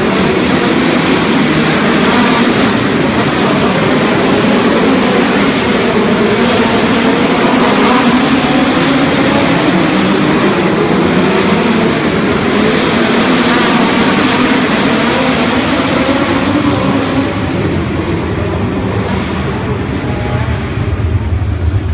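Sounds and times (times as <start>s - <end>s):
race car engines droning: 0.0s - 21.9s.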